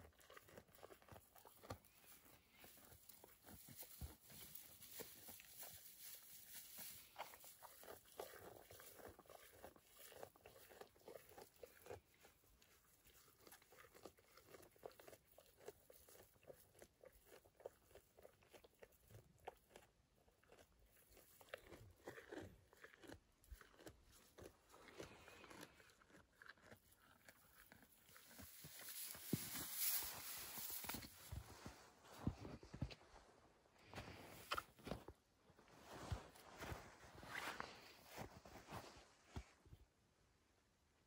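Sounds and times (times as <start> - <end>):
calf chewing hay: 0.0 - 33.0.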